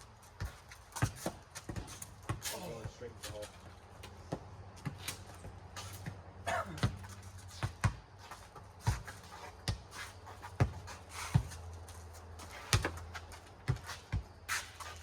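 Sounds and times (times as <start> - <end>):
rubber ball bouncing on pavement: 0.3 - 15.0.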